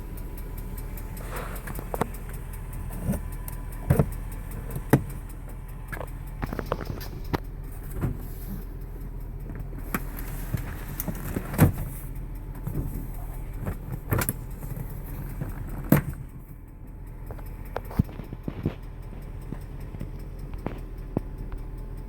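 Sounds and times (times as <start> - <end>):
engine idling: 0.0 - 22.0
sharp ticking clicks: 0.0 - 22.0.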